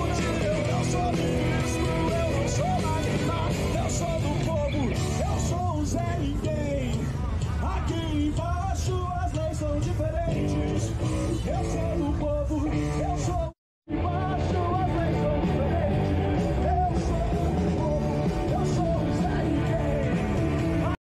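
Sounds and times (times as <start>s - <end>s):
rock music with singing: 0.0s - 21.0s.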